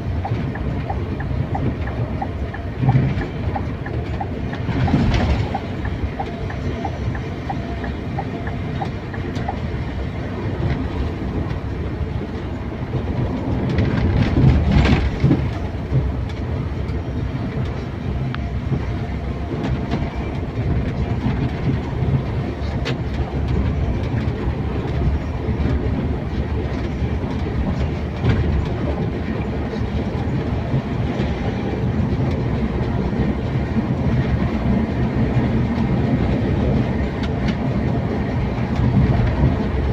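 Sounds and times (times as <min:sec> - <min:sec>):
coach engine and road noise: 0:00.0 - 0:39.9.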